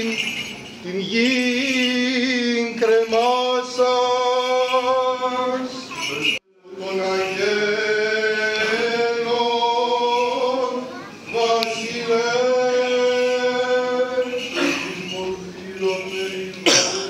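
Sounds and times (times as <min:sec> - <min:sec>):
choir chanting unaccompanied: 0:02.8 - 0:17.0.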